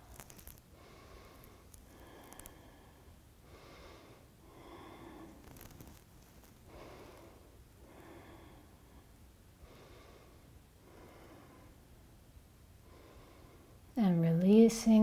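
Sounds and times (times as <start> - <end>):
faint slow breathing: 0.1 - 12.1, 12.8 - 14.0.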